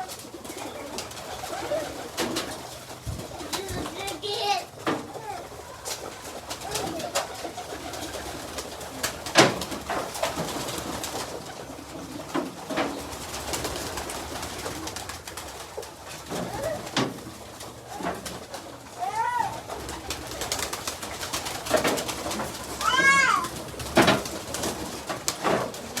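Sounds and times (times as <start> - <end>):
farm birds calling and cooing: 0.0 - 26.0.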